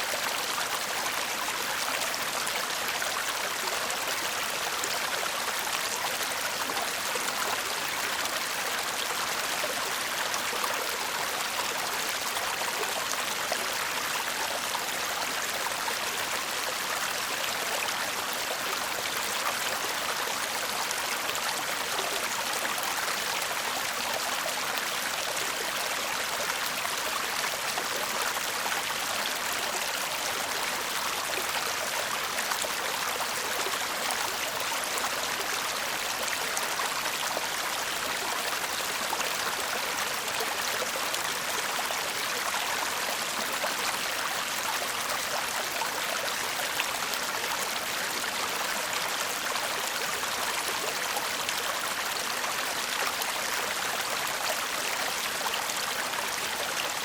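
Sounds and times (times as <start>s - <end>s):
stream babbling and trickling: 0.0s - 57.0s.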